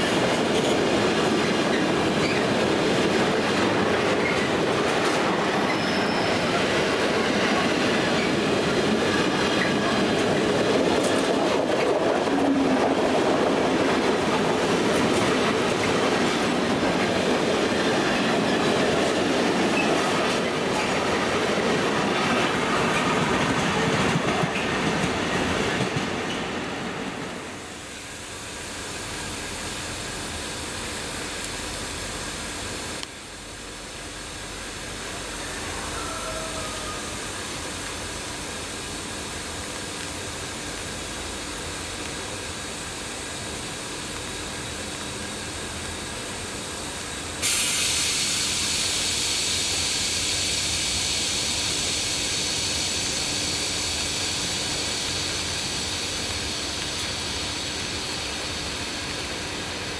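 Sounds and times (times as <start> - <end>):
loud high hiss: 0.0 - 59.9
train steady hiss: 0.0 - 59.9.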